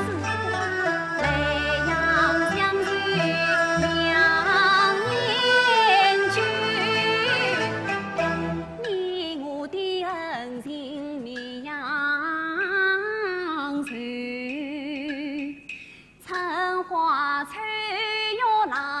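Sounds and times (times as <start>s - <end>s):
opera singing with vibrato: 0.0s - 15.6s.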